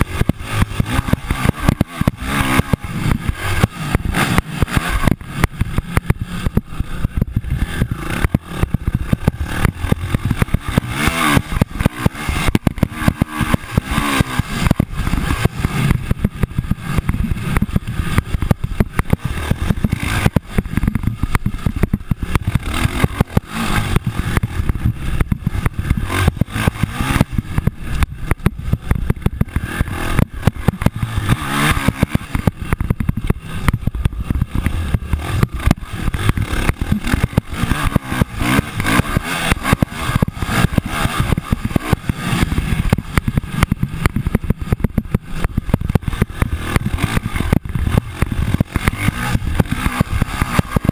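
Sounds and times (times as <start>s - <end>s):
dirt bike engines revving: 0.0s - 50.9s
rough crackling noise: 0.0s - 50.9s.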